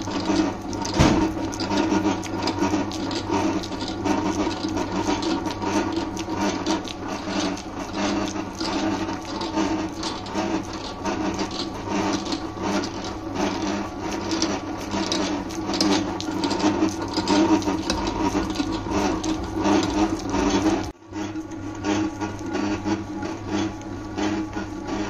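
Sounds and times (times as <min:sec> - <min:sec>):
dough scraping and knocking in bowl: 0:00.0 - 0:25.0
stand mixer motor humming: 0:00.0 - 0:25.0.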